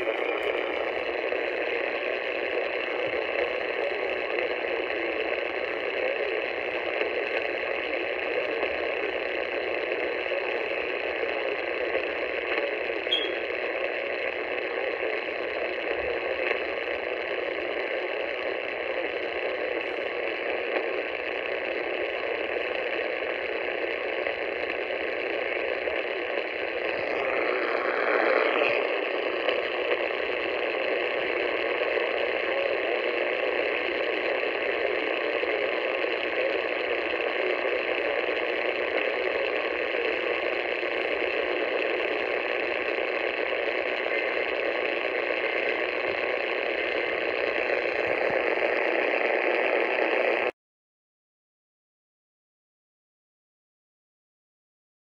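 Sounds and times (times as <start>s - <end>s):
radio static hiss: 0.0s - 50.6s.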